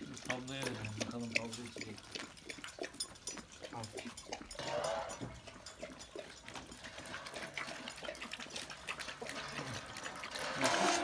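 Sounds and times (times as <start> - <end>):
dogs lapping from a bowl: 0.0 - 11.0.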